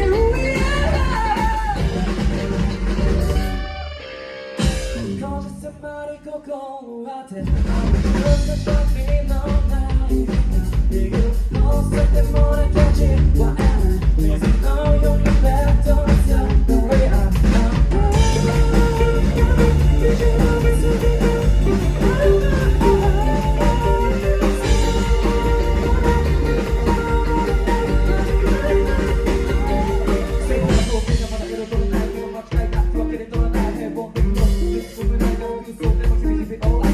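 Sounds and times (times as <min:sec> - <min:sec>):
person singing: 0:00.0 - 0:03.8, 0:04.6 - 0:36.9
rock band playing: 0:00.0 - 0:05.8, 0:07.4 - 0:36.9.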